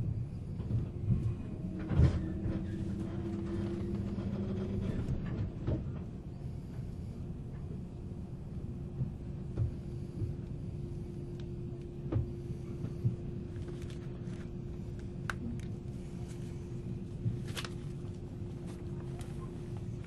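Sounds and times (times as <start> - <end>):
train interior rumble and hum: 0.0 - 20.0.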